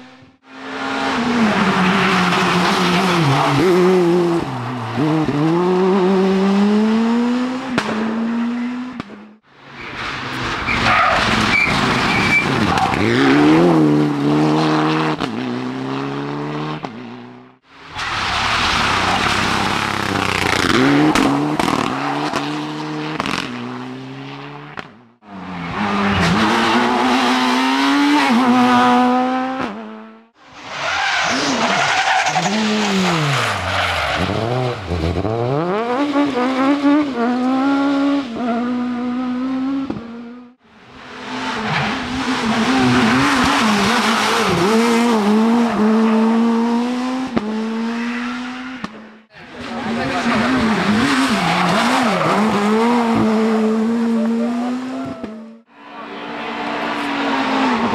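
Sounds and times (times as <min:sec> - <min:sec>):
rally car engines revving: 0:00.0 - 0:57.9.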